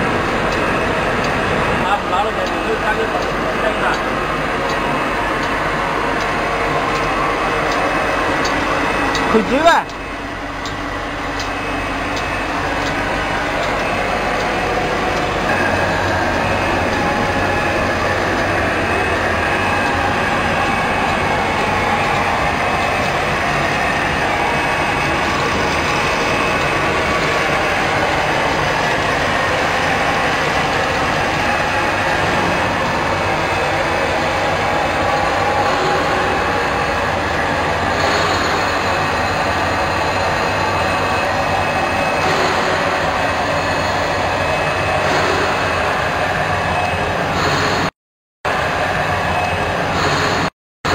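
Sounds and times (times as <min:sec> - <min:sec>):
machine clattering and whirring: 0:00.0 - 0:47.9, 0:48.5 - 0:50.9.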